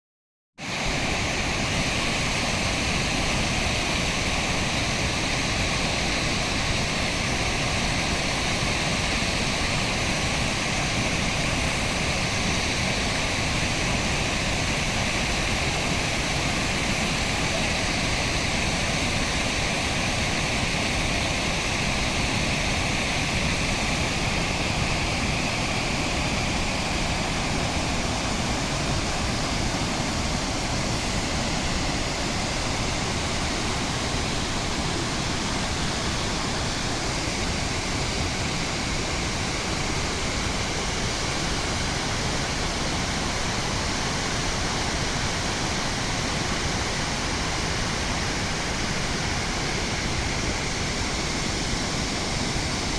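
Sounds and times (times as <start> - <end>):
waterfall rushing: 0.6 - 52.9.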